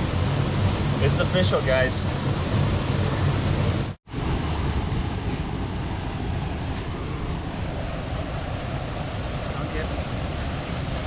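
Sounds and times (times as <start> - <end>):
waterfall roar: 0.0 - 11.0.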